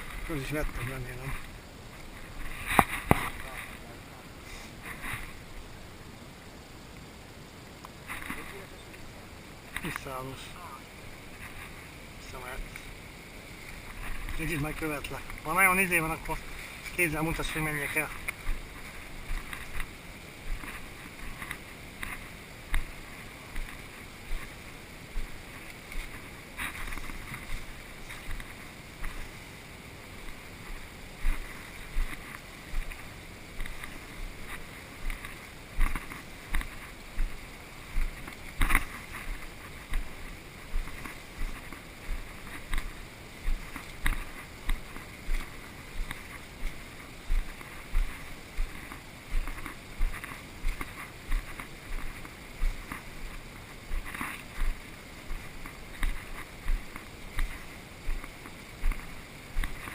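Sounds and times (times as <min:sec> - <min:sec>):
rustling: 0:00.0 - 0:05.5, 0:09.7 - 0:59.9
footsteps walking: 0:11.2 - 0:12.9, 0:13.6 - 0:59.9.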